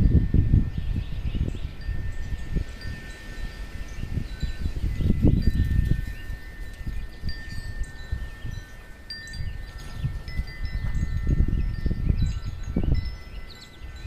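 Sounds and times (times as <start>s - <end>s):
wind buffeting microphone: 0.0s - 14.0s
wind chimes ringing: 0.0s - 14.0s.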